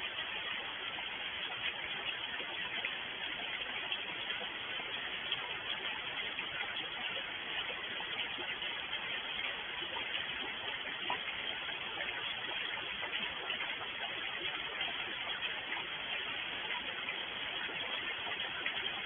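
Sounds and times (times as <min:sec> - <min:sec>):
raindrops ticking: 0:00.0 - 0:19.0
steady rainfall: 0:00.0 - 0:19.0.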